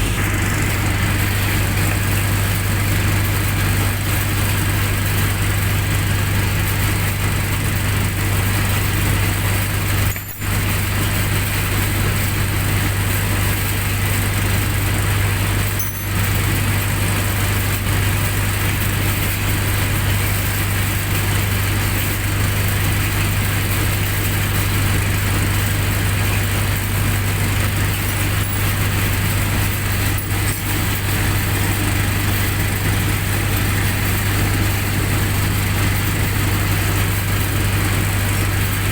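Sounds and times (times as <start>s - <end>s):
generator engine humming: 0.0s - 38.9s.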